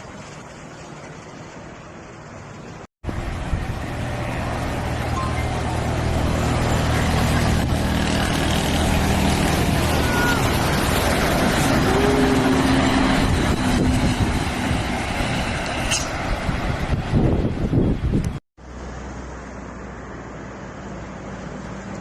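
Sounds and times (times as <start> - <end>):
diesel engine drone: 0.0 - 22.0
road noise: 0.0 - 22.0.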